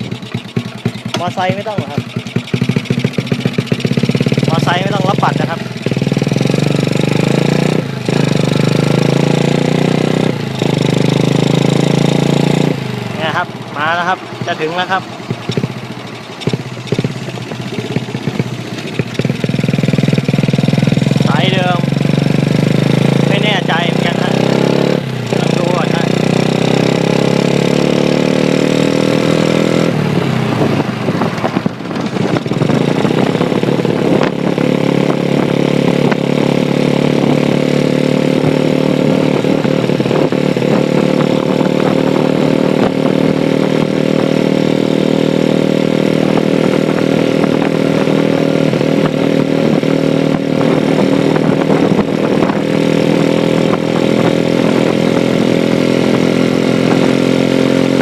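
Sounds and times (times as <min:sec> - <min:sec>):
minibike engine running: 0:00.0 - 0:58.0.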